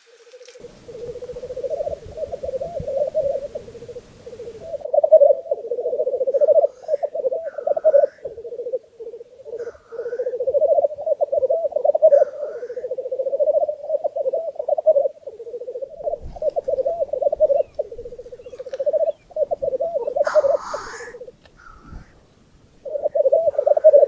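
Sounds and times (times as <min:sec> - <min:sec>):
grouse hissing call: 0:00.0 - 0:24.0
black grouse bubbling song: 0:00.4 - 0:24.0.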